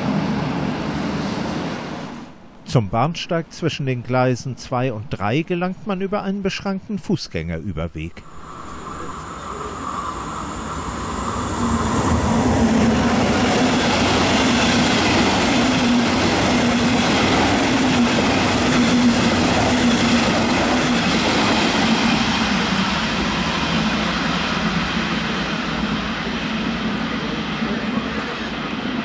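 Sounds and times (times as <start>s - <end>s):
train passing at speed: 0.0s - 4.6s, 8.1s - 29.0s.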